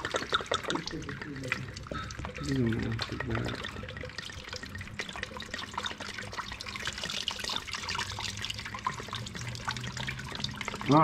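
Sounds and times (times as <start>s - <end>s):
liquid dribbling into bucket: 0.0s - 11.0s.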